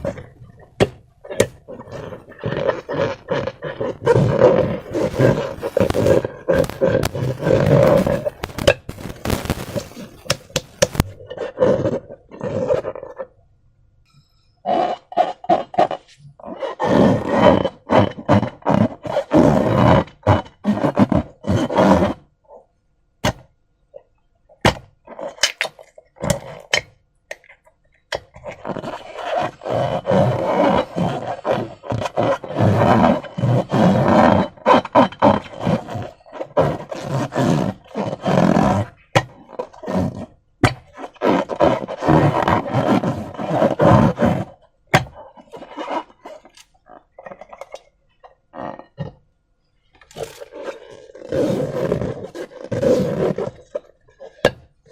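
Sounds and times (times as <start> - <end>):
slime squelching: 0.0 - 13.4, 14.7 - 49.2.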